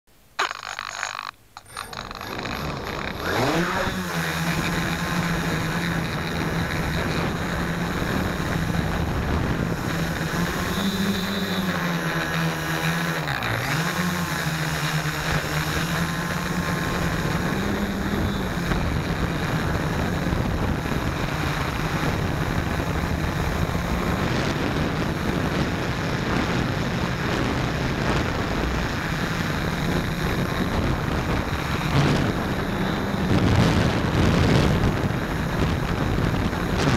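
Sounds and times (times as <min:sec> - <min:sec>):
drone motors buzzing: 0:00.4 - 0:36.9.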